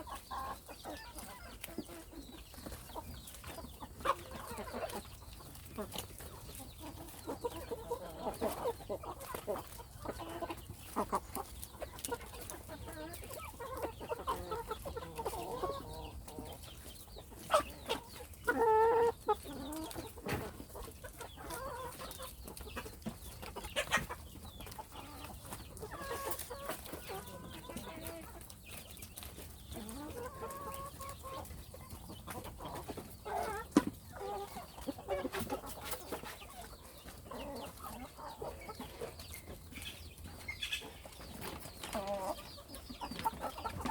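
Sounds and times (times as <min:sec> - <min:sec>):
hens clucking: 0:00.0 - 0:43.9.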